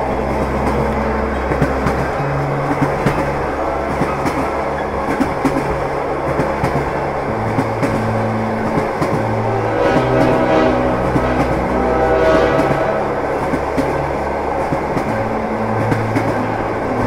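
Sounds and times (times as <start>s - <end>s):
diesel locomotive engine hum: 0.0s - 17.0s
train wheels clattering on track: 0.0s - 17.0s.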